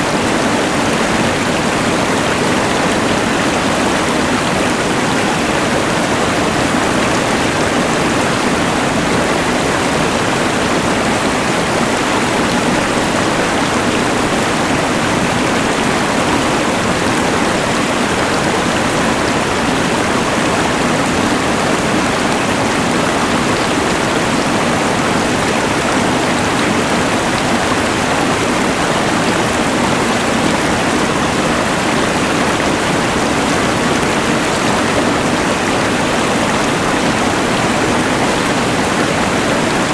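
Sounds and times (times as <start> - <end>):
rushing river: 0.0 - 39.9.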